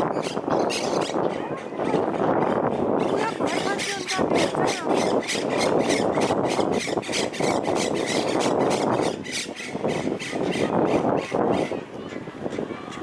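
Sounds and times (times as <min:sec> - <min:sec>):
parakeets harsh chattering calls: 0:00.0 - 0:13.0.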